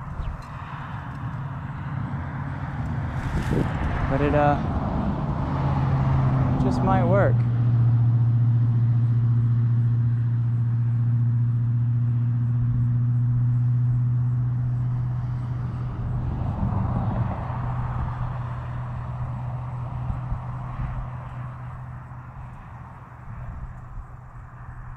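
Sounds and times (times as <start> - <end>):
vehicle engine humming: 0.0 - 24.9.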